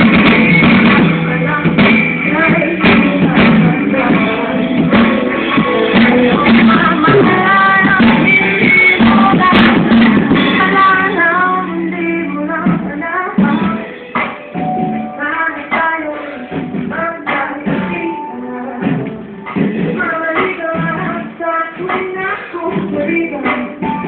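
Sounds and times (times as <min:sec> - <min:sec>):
song with high singing voice: 0:00.0 - 0:24.0.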